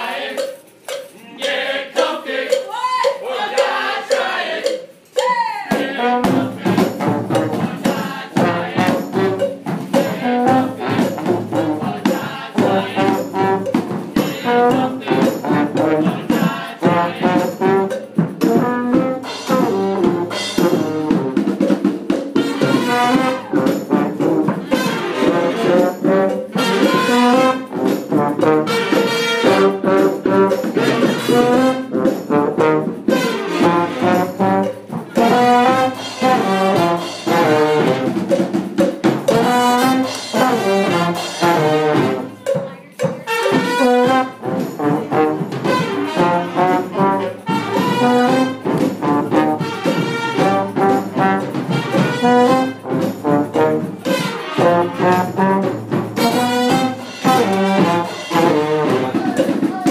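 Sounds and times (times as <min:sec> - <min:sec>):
cymbals: 0:00.0 - 0:59.9
marching brass band playing: 0:05.7 - 0:59.9.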